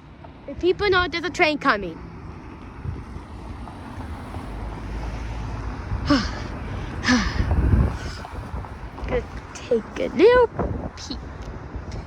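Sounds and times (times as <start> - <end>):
wind rumbling on microphone: 2.1 - 12.0.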